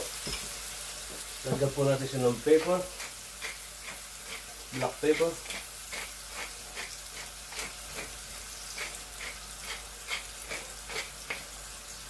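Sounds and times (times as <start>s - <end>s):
chicken sizzling in a pan: 0.0s - 12.0s
pepper mill grinding: 2.3s - 12.0s.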